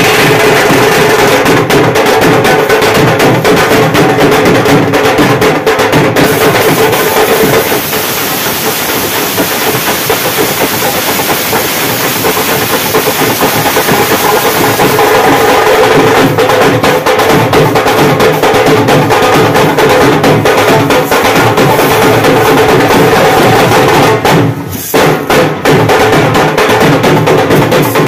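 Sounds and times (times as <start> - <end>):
fast continuous drumming: 0.0 - 28.0.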